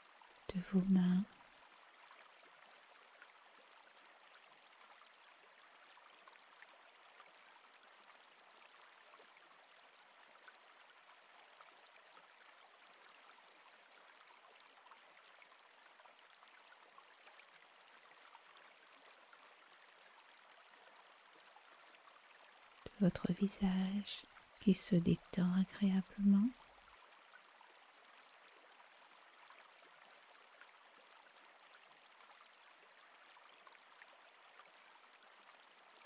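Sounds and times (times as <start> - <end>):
small water splashes and trickles: 0.0 - 36.0.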